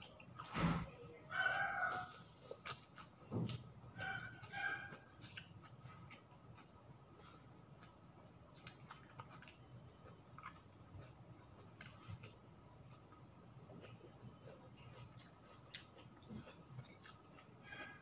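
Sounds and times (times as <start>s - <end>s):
chewing and eating sounds: 0.0s - 18.0s.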